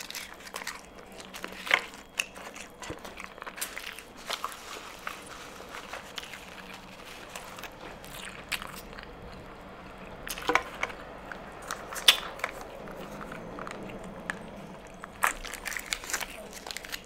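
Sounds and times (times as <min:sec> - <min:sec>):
quiet chewing: 0:00.0 - 0:17.0.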